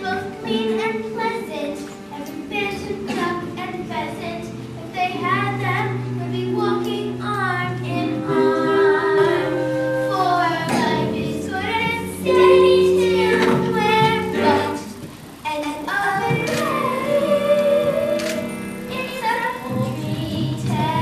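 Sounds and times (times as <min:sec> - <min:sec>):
children singing a show tune: 0:00.0 - 0:21.0
musical accompaniment: 0:00.0 - 0:21.0.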